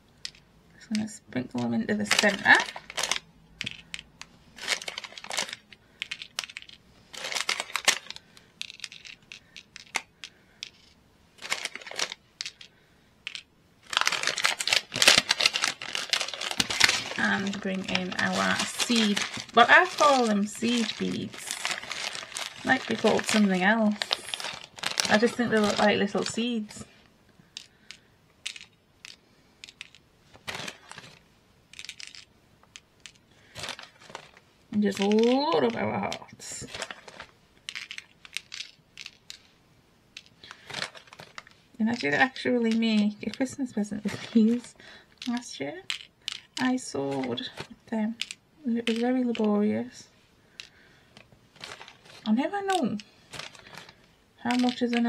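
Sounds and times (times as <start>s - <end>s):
beads clicking: 1.6s - 26.8s, 27.4s - 49.6s, 50.5s - 55.0s
plastic bag rustling: 2.0s - 12.7s, 13.3s - 27.0s, 29.6s - 32.3s, 33.0s - 39.5s, 40.2s - 49.6s, 51.5s - 55.0s.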